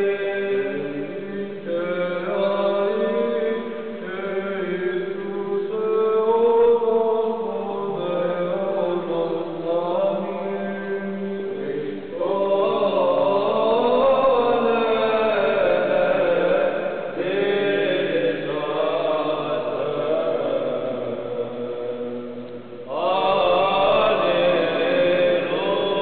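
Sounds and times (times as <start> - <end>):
voices chanting together: 0.0 - 26.0.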